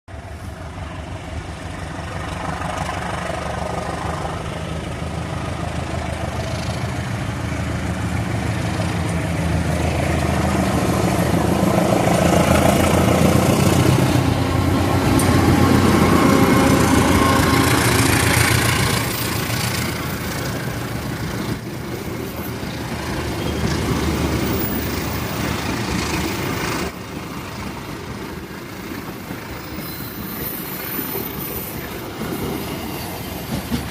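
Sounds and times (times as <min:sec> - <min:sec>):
diesel locomotive engine rumble: 0:00.1 - 0:33.9.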